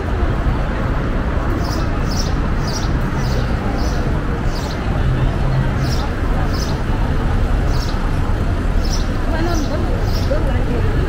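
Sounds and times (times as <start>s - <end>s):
crowd murmur: 0.0s - 11.0s
traffic: 0.0s - 11.0s.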